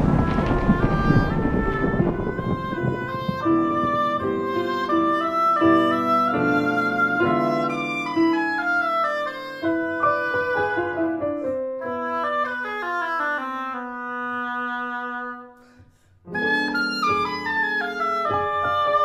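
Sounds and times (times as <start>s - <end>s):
instrumental background music: 0.3s - 15.6s, 16.2s - 19.0s.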